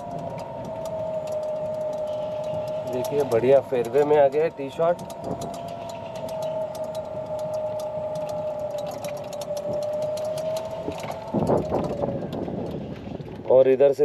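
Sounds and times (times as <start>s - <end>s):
golf cart motor whine: 0.0s - 13.6s
small rattling clicks: 0.0s - 14.0s.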